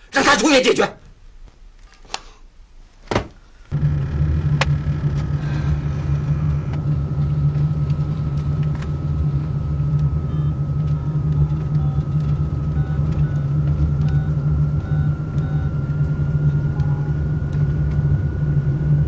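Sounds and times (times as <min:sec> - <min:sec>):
low vehicle rumble: 0:03.6 - 0:19.0.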